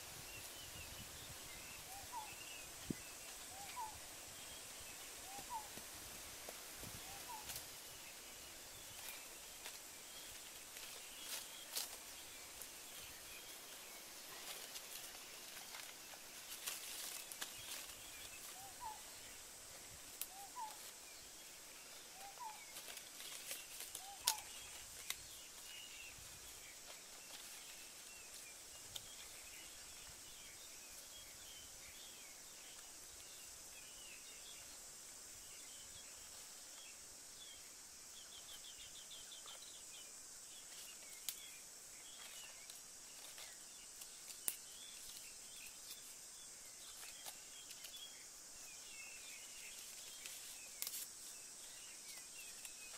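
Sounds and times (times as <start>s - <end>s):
leaves rustling: 0.0s - 52.9s
steady high hiss: 0.0s - 52.9s.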